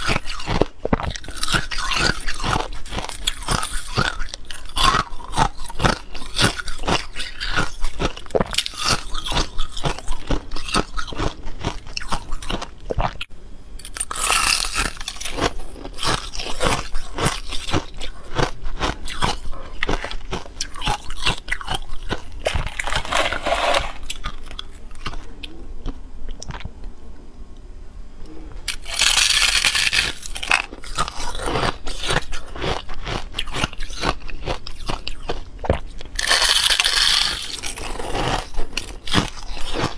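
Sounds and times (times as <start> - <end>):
crunching and chewing ice: 0.0 - 26.7, 28.7 - 39.9.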